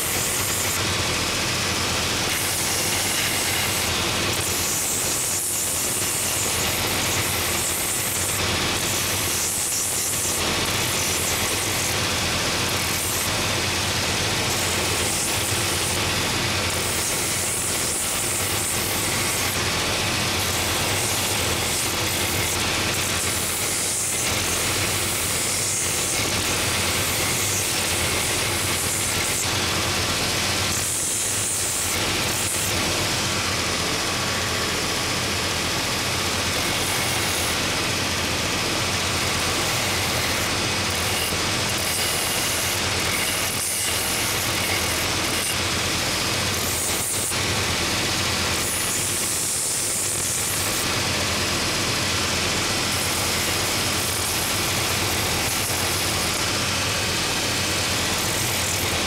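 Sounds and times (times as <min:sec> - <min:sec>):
belt sander motor hum: 0:00.0 - 0:59.0
sander grinding wood: 0:00.0 - 0:59.0.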